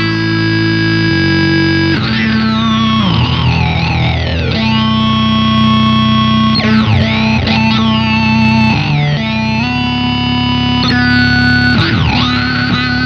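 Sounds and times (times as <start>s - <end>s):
buzzy synth guitar tones: 0.0s - 13.0s.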